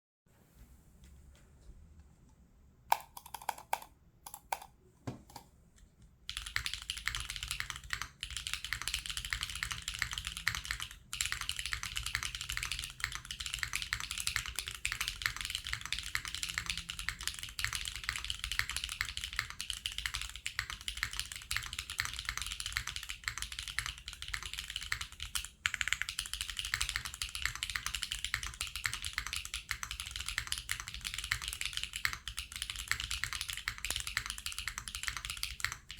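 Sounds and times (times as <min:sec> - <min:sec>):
mechanical keyboard typing: 0:02.9 - 0:05.5, 0:06.3 - 0:35.9.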